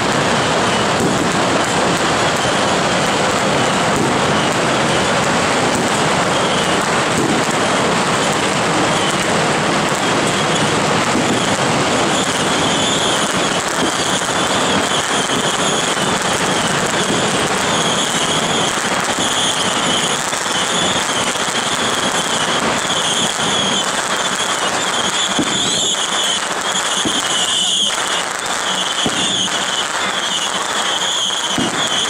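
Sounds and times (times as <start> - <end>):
firecrackers crackling: 0.0 - 32.0.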